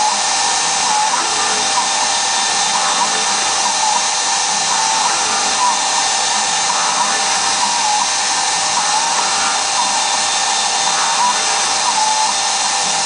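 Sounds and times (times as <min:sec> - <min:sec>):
end mill cutting metal: 0:00.0 - 0:13.0
milling spindle whine: 0:00.0 - 0:13.0.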